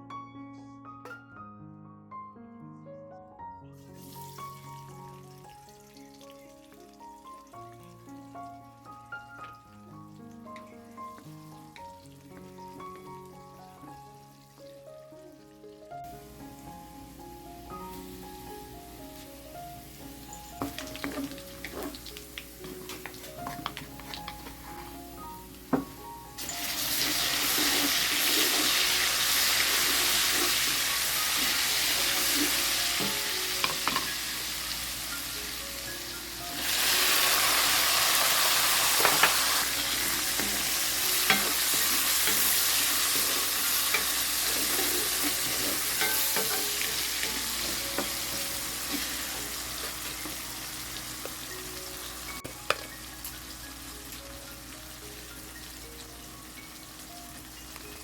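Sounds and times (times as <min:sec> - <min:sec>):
food sizzling in oil: 0:03.8 - 0:58.0.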